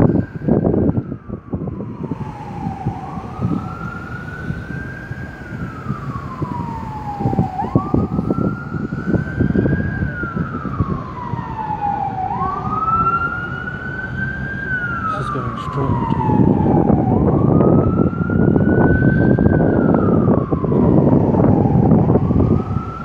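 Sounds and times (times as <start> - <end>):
emergency siren wailing: 0.0 - 23.0
traffic and street noise: 0.0 - 23.0.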